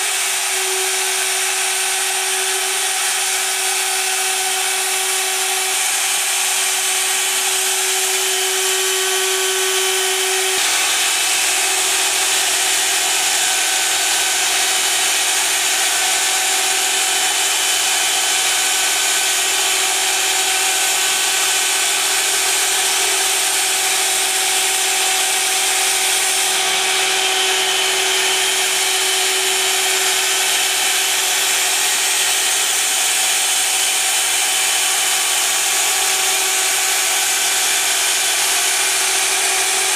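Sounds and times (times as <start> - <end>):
engraving machine spindle whining: 0.0 - 39.9.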